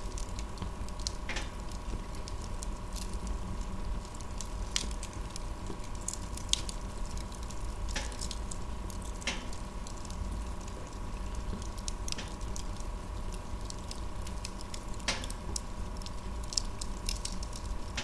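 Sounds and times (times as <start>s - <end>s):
fire crackles and pops: 0.0s - 18.0s
fire rumbling and hissing: 0.0s - 18.0s.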